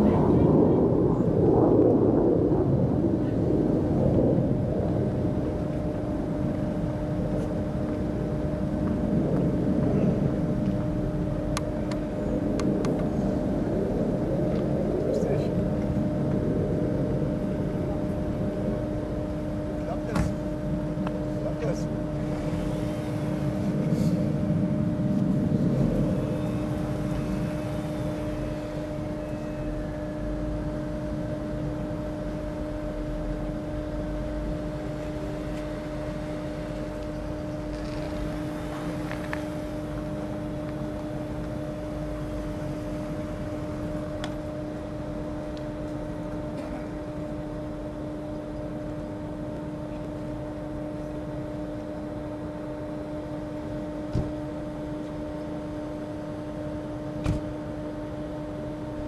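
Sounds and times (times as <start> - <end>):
low rumble: 0.0 - 52.2
train interior hum: 0.0 - 59.0.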